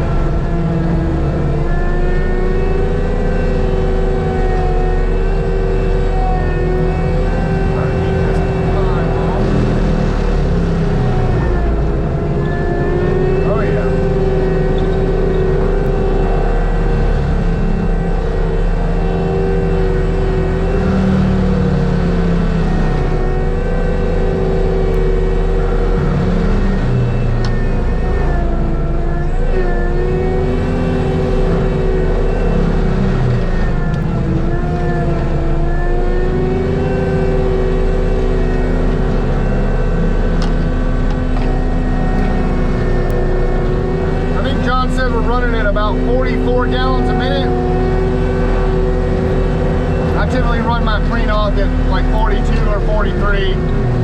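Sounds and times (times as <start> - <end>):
diesel engine running hard: 0.0 - 54.0.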